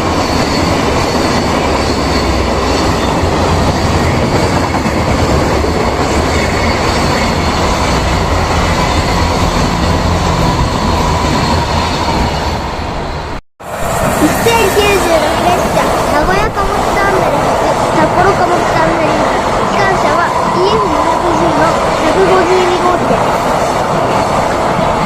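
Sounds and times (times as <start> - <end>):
freight train wheels rolling on rails: 0.0 - 25.0.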